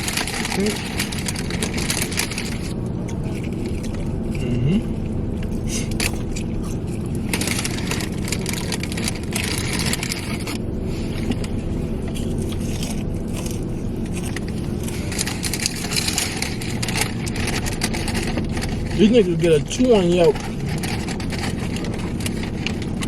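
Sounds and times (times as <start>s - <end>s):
paper packaging rustling: 0.0s - 4.0s, 5.5s - 23.0s
crunching of eating food: 0.0s - 23.0s
low engine rumble: 0.0s - 23.0s.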